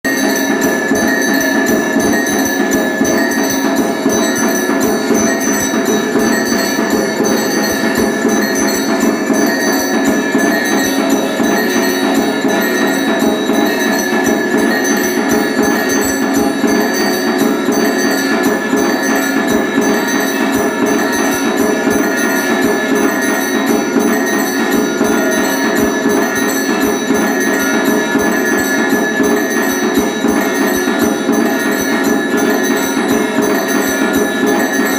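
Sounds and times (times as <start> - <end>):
bell struck rapidly: 0.0 - 34.9
fast drum beats: 0.0 - 34.9.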